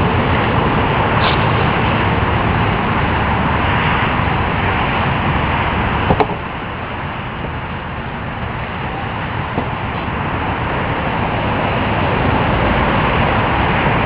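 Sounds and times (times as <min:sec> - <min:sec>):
loud engine exhaust note: 0:00.0 - 0:14.0.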